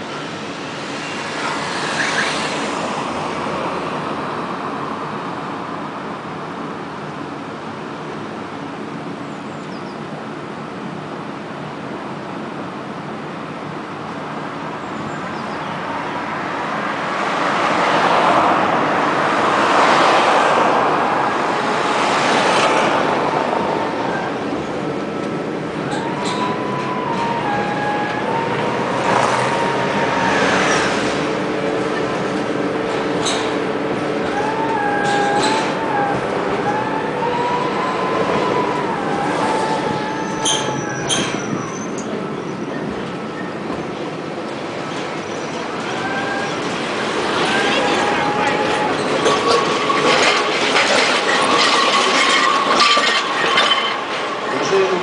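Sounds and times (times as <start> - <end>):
tram wheels rumbling on rails: 0.0 - 55.0.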